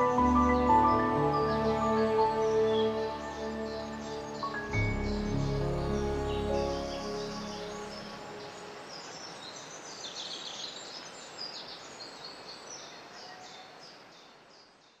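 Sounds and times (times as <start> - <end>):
small birds chirping: 0.0 - 15.0
steady background hiss: 0.0 - 15.0.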